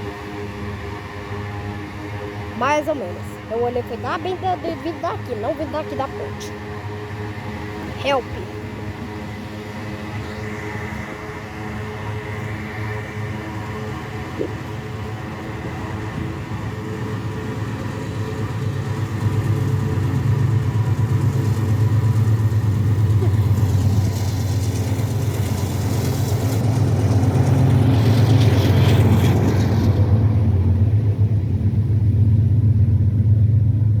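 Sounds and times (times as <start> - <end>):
heavy engine rumbling: 0.0 - 34.0.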